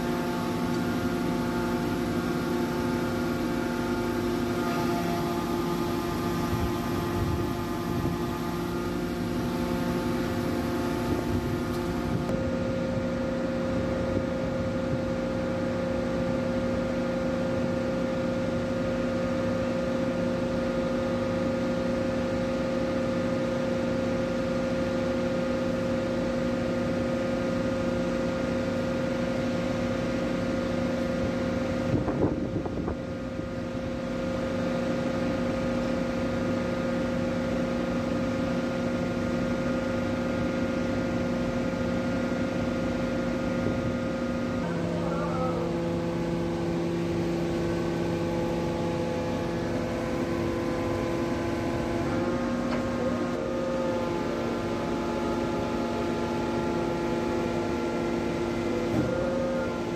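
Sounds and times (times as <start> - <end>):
hydraulic pump humming: 0.0 - 59.9.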